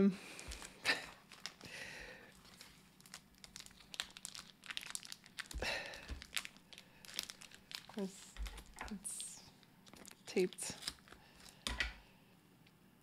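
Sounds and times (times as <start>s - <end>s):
packaging crinkling and rustling: 0.4s - 11.9s.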